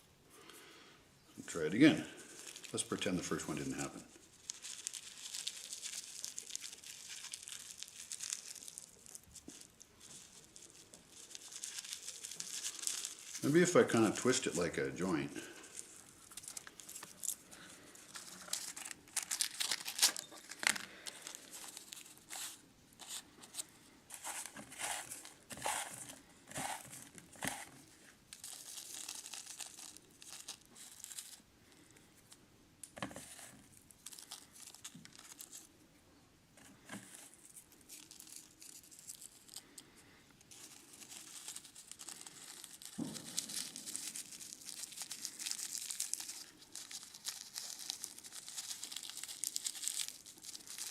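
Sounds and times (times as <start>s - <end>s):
rolling paper and tobacco rustling: 1.4s - 35.7s, 36.6s - 50.9s.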